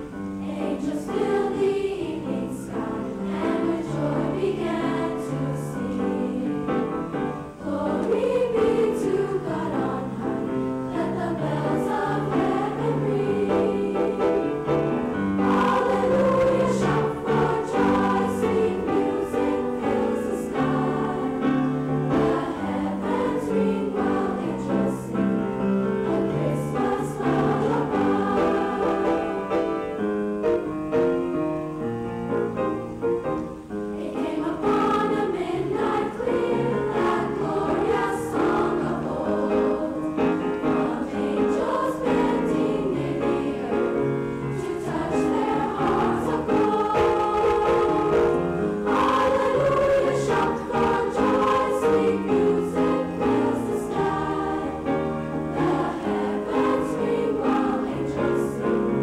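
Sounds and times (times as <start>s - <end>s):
women's choir singing held notes: 0.0s - 59.0s.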